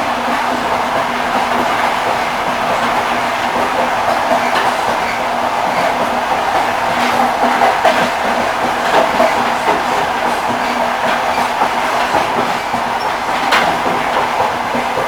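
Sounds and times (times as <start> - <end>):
train wheels rolling on track: 0.0 - 15.0
wheels clacking over rail joints: 0.0 - 15.0.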